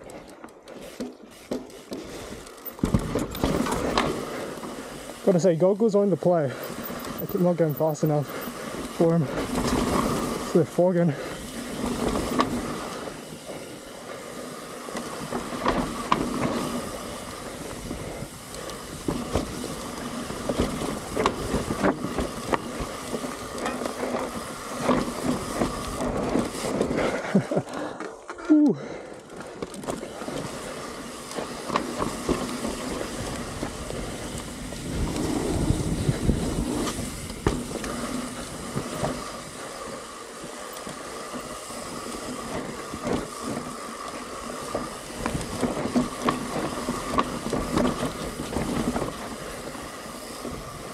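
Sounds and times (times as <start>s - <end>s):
tyre and wind noise: 0.0s - 27.8s, 29.3s - 50.9s
bike clicks and rattles: 0.0s - 50.9s.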